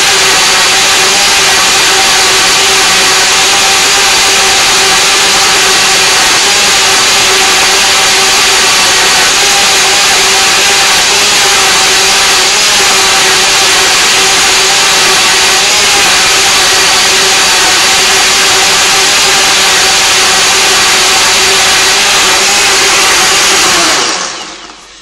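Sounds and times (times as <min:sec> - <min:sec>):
blender motor running: 0:00.0 - 0:25.0.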